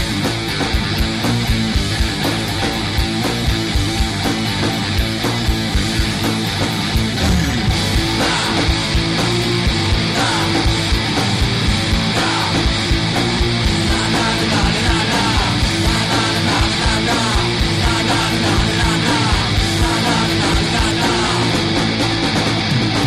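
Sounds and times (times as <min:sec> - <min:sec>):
fast drum beat: 0:00.0 - 0:23.0
rock music with electric guitars: 0:00.0 - 0:23.0.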